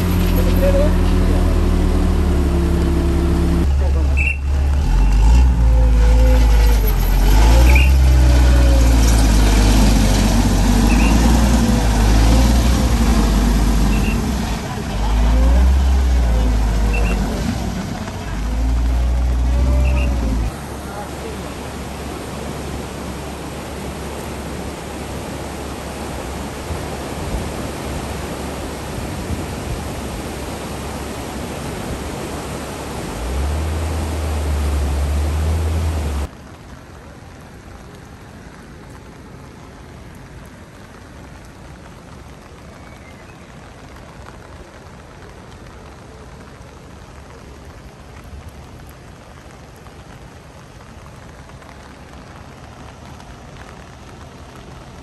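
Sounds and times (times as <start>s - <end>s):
rain falling on water: 0.0s - 55.0s
river rushing: 0.0s - 55.0s.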